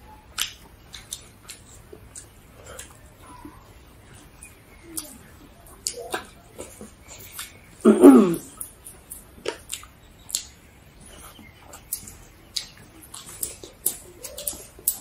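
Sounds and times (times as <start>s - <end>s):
people eating with wet smacks: 0.0s - 15.0s.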